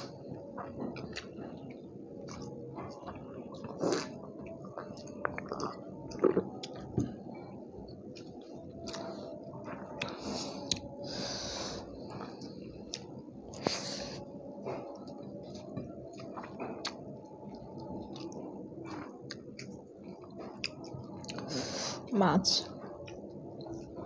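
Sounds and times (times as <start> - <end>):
chewing and mouth noises: 0.0 - 21.6, 22.6 - 24.0.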